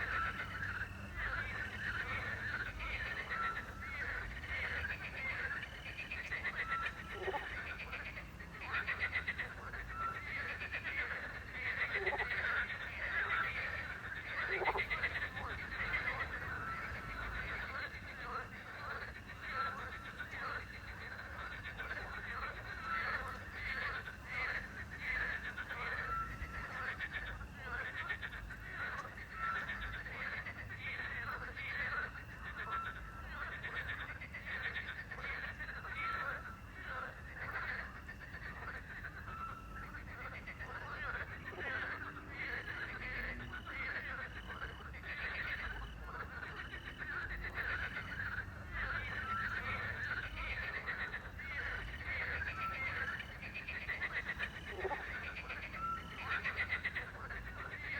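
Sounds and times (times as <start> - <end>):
faint cricket trill: 0.0 - 57.9
frogs croaking: 0.0 - 57.9.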